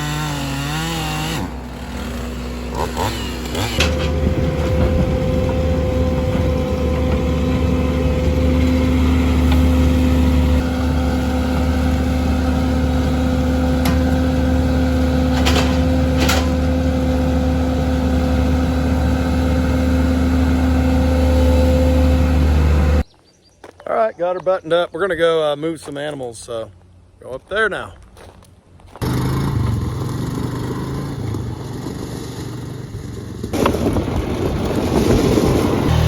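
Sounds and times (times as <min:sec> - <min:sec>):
engine running steadily: 0:00.0 - 0:23.1, 0:28.8 - 0:36.0.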